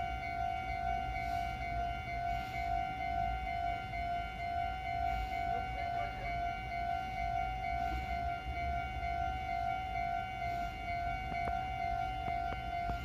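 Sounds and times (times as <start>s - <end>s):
railway crossing bell dinging: 0.0s - 13.0s.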